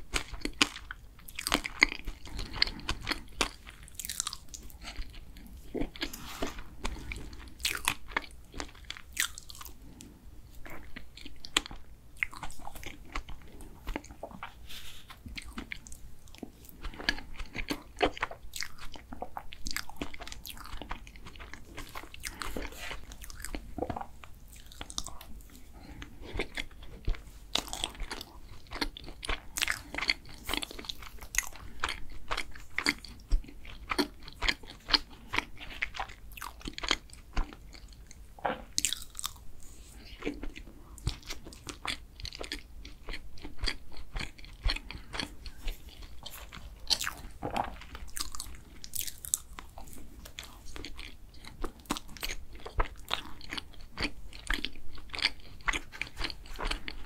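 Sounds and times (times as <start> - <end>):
wet chewing mouth sounds: 0.0 - 57.0.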